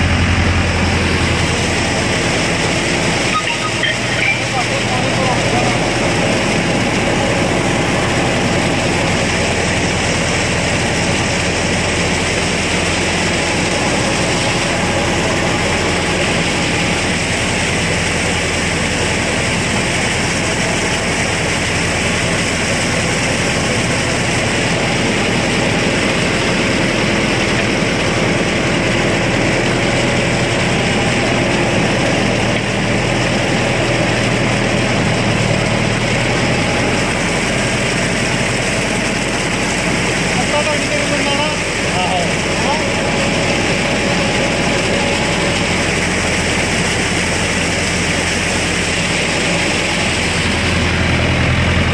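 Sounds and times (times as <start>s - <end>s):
blades churning wet mud: 0.0s - 51.9s
tractor engine running: 0.0s - 51.9s.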